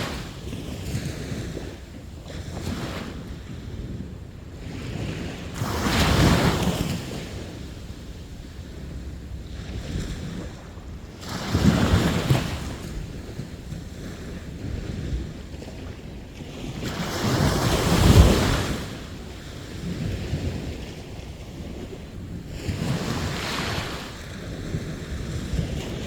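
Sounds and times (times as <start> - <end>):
sea waves crashing on beach: 0.0 - 26.0
surf washing: 0.0 - 26.0.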